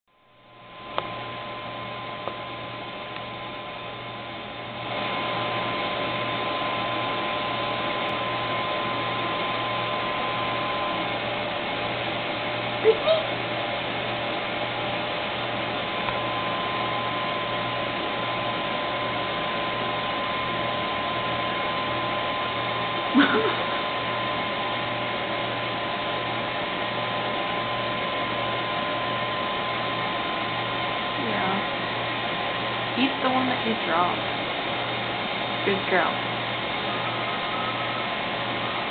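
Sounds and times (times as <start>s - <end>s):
faint steady hum: 0.1s - 38.9s
thin high whine: 0.1s - 38.9s.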